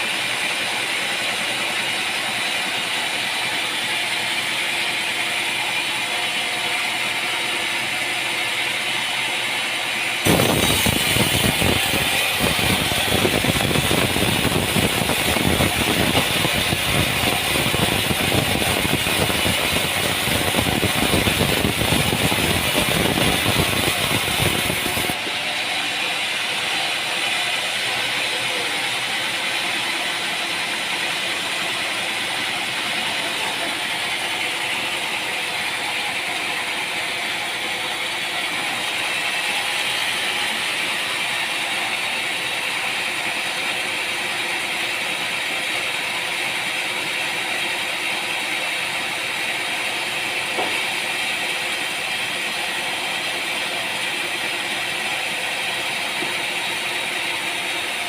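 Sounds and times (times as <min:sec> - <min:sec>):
sawmill machinery rattling: 0:00.0 - 0:58.0
thin steady machine noise: 0:00.0 - 0:58.0.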